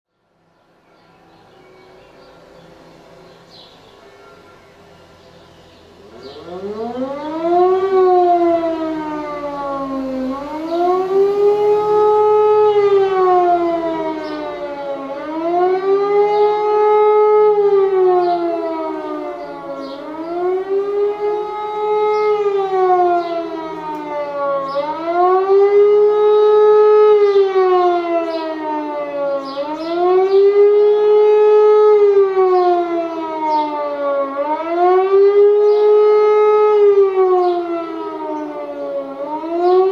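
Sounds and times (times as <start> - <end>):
electric motor siren howling: 5.7 - 39.9.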